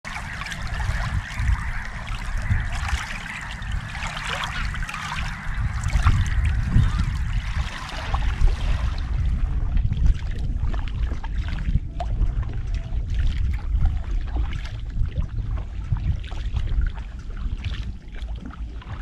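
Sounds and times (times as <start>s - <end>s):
water trickling and splashing: 0.0s - 19.0s
wind rumble on microphone: 0.0s - 19.0s.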